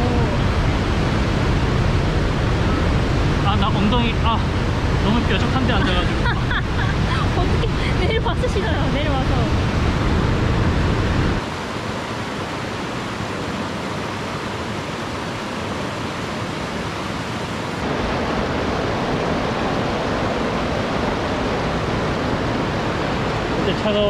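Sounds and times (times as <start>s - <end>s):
rushing creek water: 0.0s - 24.0s.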